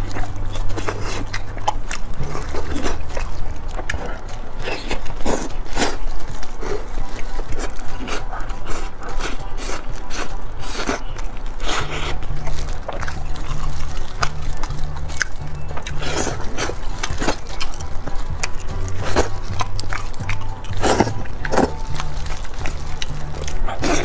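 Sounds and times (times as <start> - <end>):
chewing: 0.0 - 24.0.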